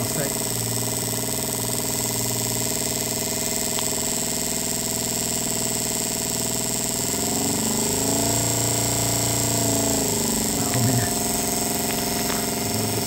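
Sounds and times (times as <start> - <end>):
spark plug snapping buzz: 0.0 - 13.0.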